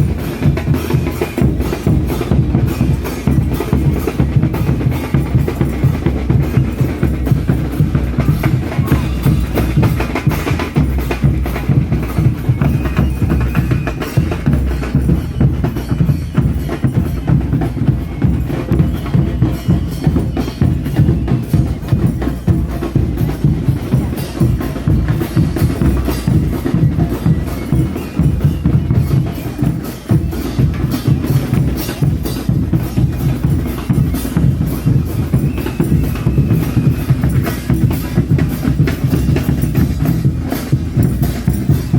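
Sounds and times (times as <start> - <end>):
bass drums beating: 0.0 - 41.9.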